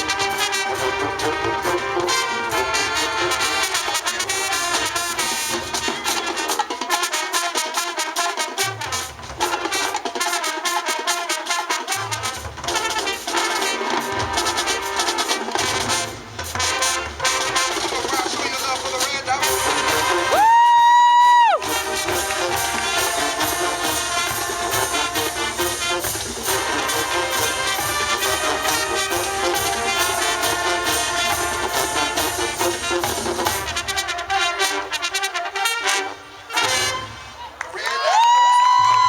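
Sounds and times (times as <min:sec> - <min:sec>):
brass held high note: 0:00.0 - 0:37.6
marching band playing: 0:00.0 - 0:39.0.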